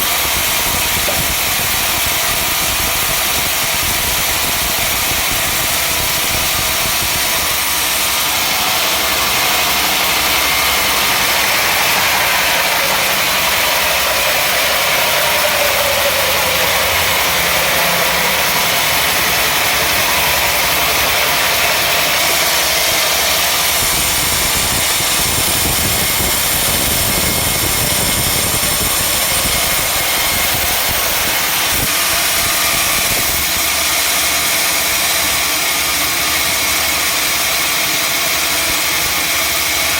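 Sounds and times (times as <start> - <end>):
wide hiss: 0.0 - 35.6
sawmill machinery drone: 0.0 - 39.9.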